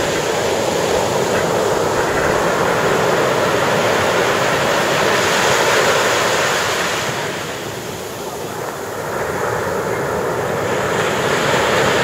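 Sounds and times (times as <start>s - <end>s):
waves breaking on sand: 0.0s - 12.0s.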